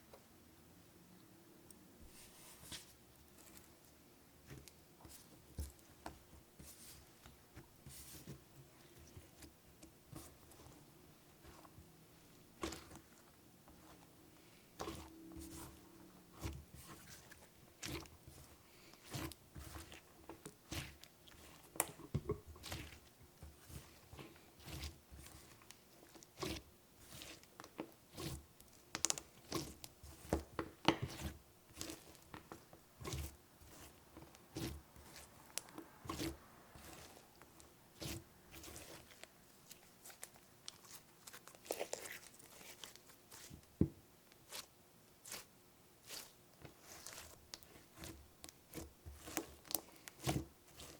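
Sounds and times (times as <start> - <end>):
hands kneading sticky slime: 2.0 - 50.9.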